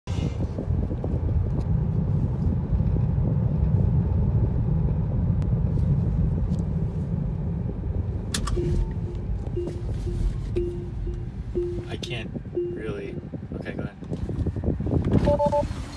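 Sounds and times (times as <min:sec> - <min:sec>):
car driving heard from cabin: 0:00.1 - 0:15.9.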